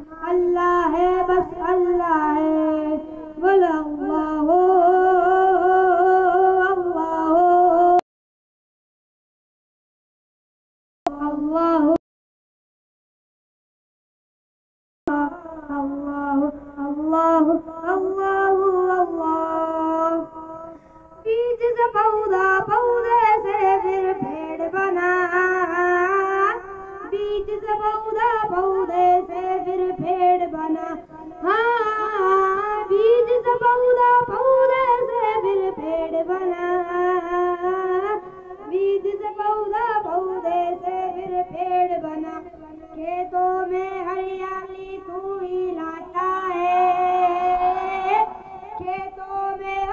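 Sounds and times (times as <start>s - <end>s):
boy singing through loudspeaker: 0.0s - 8.0s, 11.1s - 12.0s, 15.1s - 49.9s.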